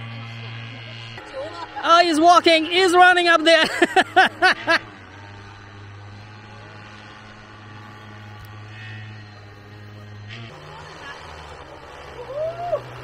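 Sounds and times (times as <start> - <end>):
paramotor engine humming: 0.0 - 13.0.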